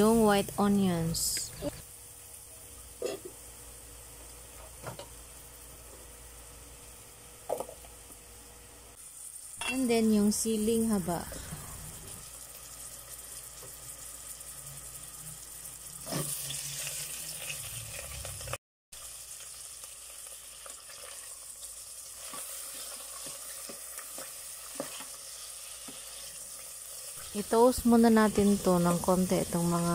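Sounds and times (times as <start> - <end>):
vegetables sizzling in hot oil: 0.0 - 29.9.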